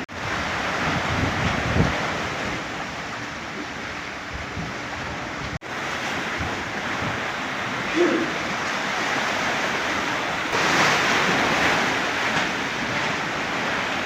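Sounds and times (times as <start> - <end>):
sea waves breaking: 0.0 - 14.0
wind buffeting microphone: 0.0 - 14.0.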